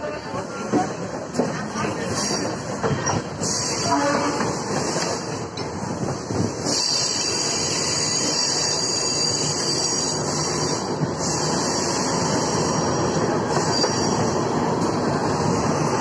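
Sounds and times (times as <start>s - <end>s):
train wheels on track: 0.0s - 16.0s.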